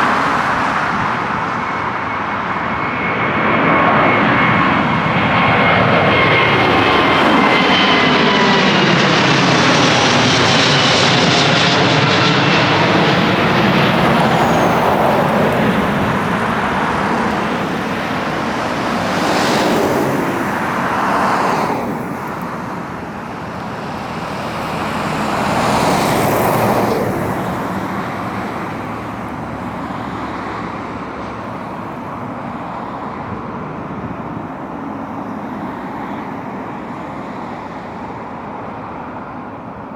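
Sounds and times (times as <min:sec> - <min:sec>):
jet airliner engine whine: 0:00.0 - 0:39.9
road traffic passing: 0:00.0 - 0:39.9.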